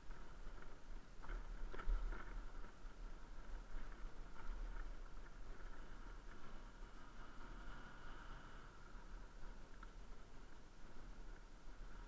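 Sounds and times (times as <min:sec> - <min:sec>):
motorcycle riding rumble: 0:00.0 - 0:12.0.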